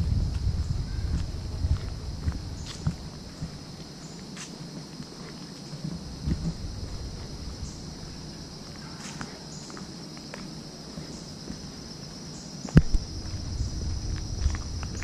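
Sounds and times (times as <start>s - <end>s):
footsteps on paved path: 0.0s - 15.0s
insects chorus: 0.0s - 15.0s.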